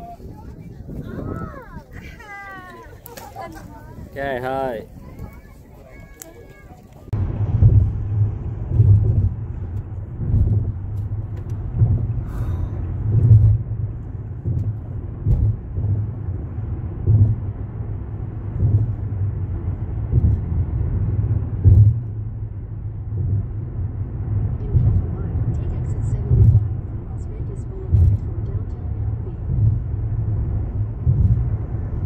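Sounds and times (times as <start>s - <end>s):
car driving rumble: 0.0s - 32.0s.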